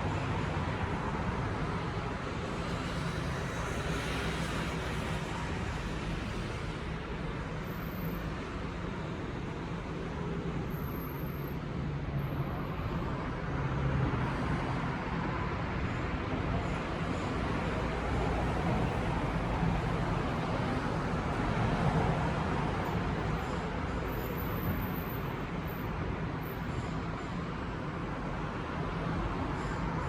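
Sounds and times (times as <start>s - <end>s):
low rumble of road traffic: 0.0s - 30.0s.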